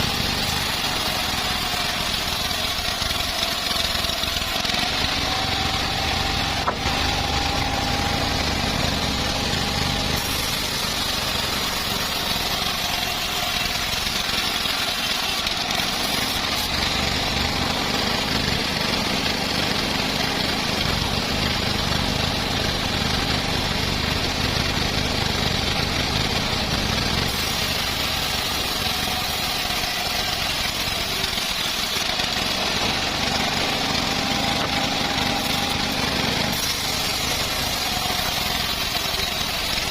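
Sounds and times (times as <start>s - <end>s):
bandsaw sawmill sawing log: 0.0s - 39.9s.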